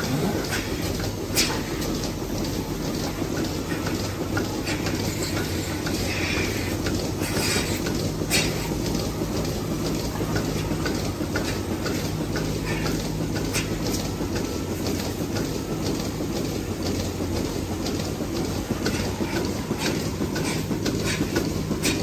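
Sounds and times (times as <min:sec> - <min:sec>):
milking machinery humming: 0:00.0 - 0:22.0.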